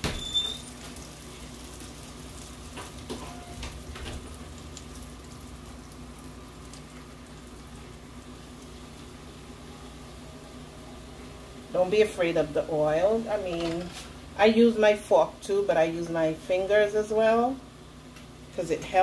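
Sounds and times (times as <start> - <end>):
dumplings sizzling in hot oil: 0.0 - 19.0.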